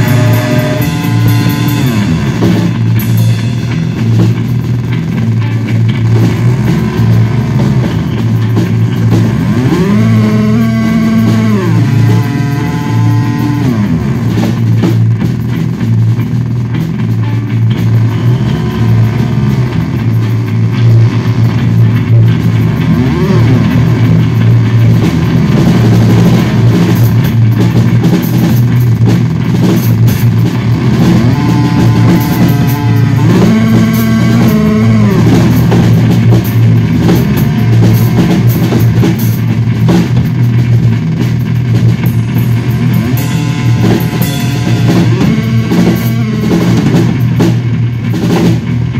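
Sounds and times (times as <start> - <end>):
bass guitar low drone: 0.0 - 48.9
drum kit playing: 0.0 - 48.9.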